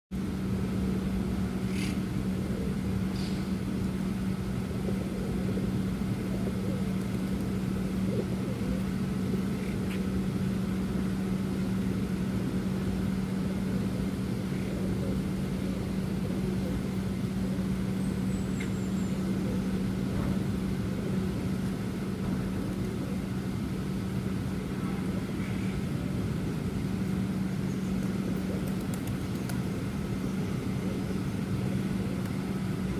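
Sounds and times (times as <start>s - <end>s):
motor hum with low rumble: 0.2s - 32.9s.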